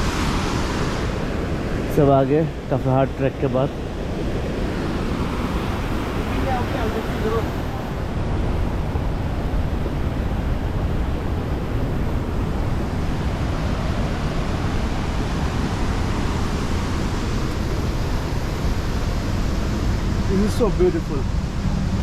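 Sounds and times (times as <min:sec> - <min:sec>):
waterfall rushing: 0:02.8 - 0:22.0.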